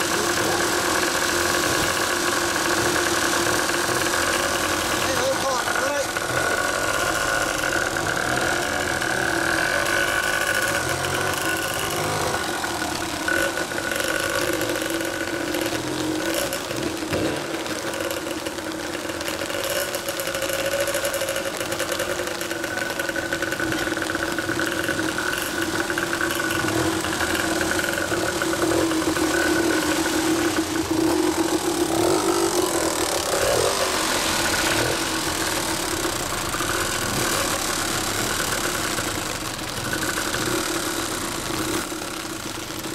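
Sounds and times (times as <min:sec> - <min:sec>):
two-stroke dirt bike engines: 0:00.0 - 0:42.9.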